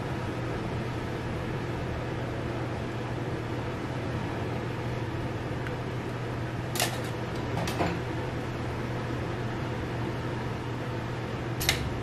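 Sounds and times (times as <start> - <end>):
kitchen fan humming: 0.0 - 12.0.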